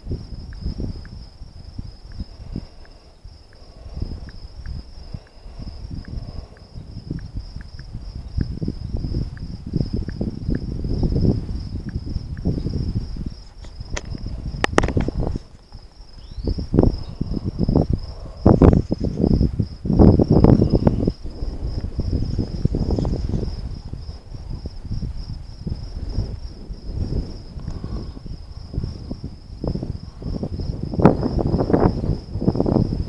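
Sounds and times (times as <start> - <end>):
crickets chirping: 0.0 - 33.0
low rumbling on microphone: 0.0 - 33.0.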